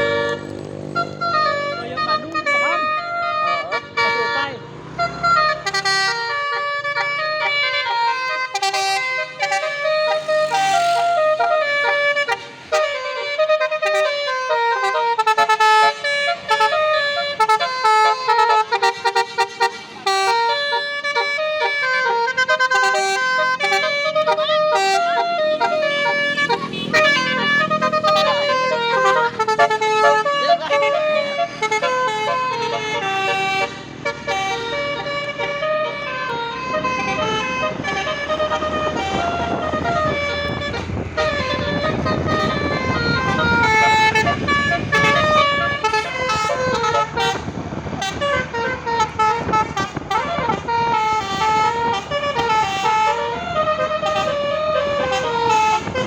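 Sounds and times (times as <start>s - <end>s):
musical air horn melody: 0.0s - 56.0s
traffic engine noise: 0.0s - 56.0s.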